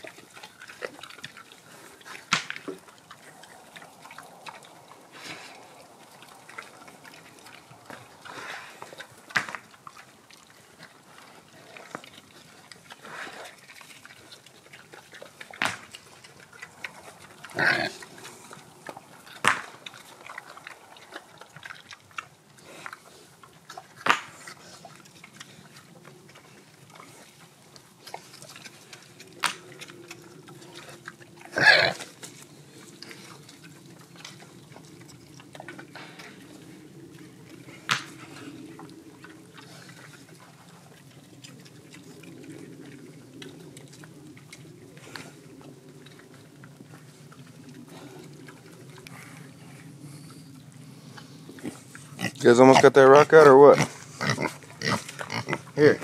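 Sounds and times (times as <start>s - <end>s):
pigs grunting and snuffling: 0.0s - 56.0s.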